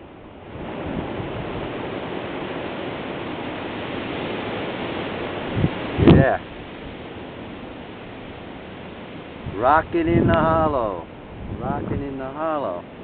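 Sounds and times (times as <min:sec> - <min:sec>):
wind blowing through trees: 0:00.0 - 0:13.0.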